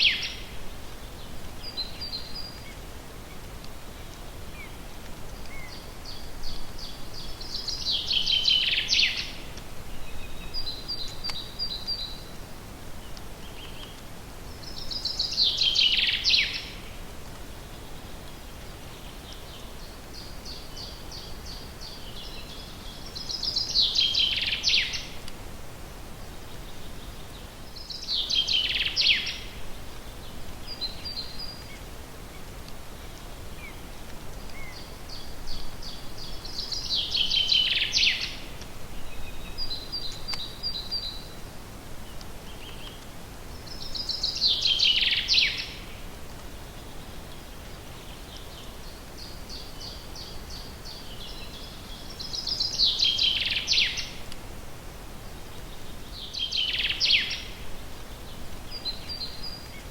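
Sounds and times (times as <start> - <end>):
faint steady hiss: 0.0 - 59.9
songbird singing: 0.0 - 59.9.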